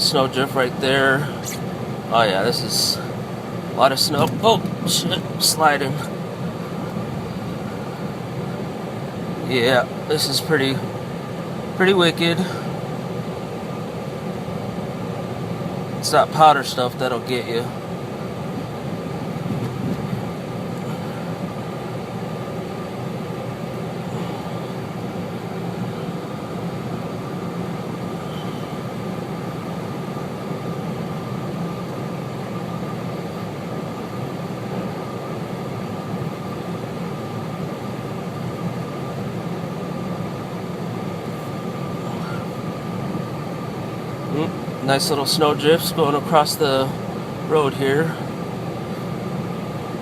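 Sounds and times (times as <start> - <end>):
car cabin engine and tyre noise: 0.0 - 50.0
faint steady whine: 0.0 - 50.0.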